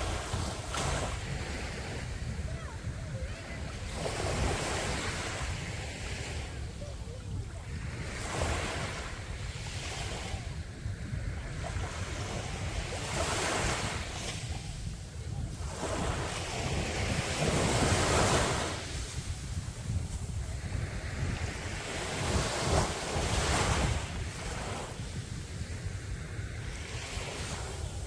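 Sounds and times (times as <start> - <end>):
ocean waves breaking on beach: 0.0 - 28.0
wind buffeting microphone: 0.0 - 28.0.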